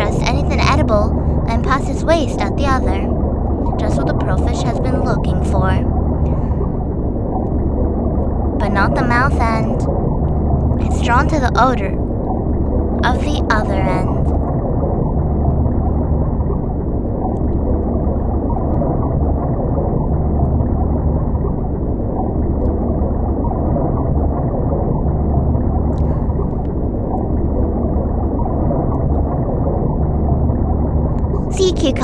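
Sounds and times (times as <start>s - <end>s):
deep gurgling underwater rumble: 0.0s - 32.0s.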